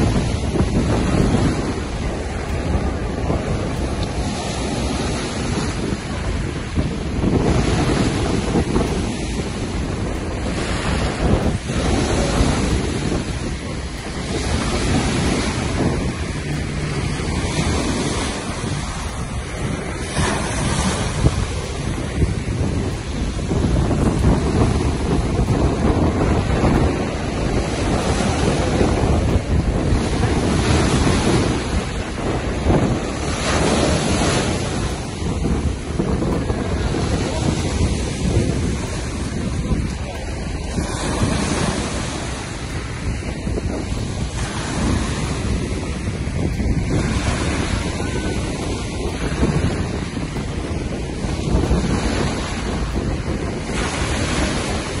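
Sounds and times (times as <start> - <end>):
sea waves washing on shore: 0.0 - 55.0
wind buffeting microphone: 0.0 - 55.0.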